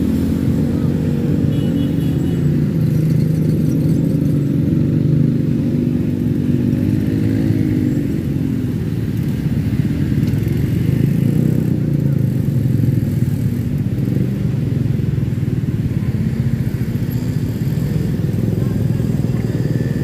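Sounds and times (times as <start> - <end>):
slow traffic engines droning: 0.0 - 20.0.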